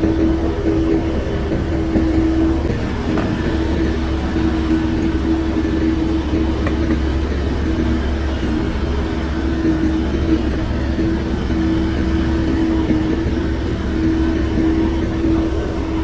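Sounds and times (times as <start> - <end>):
bulldozer diesel engine rumbling: 0.0 - 16.0
steady hum: 0.0 - 16.0.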